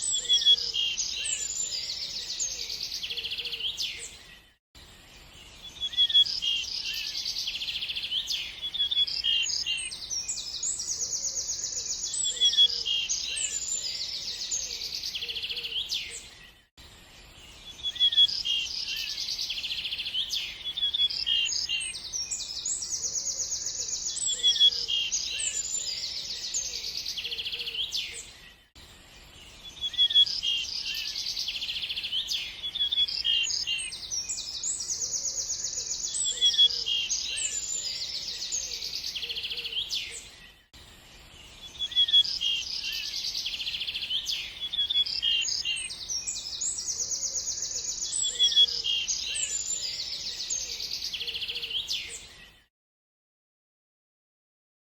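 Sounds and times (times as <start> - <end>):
small birds chirping and trilling: 0.0 - 52.7.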